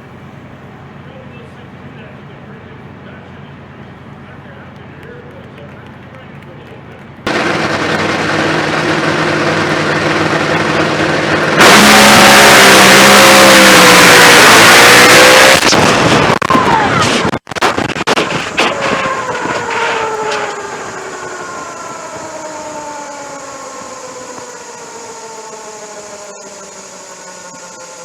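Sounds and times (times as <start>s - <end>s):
drag racer engine roaring: 0.0s - 28.0s
falling pitched tones: 4.3s - 28.0s.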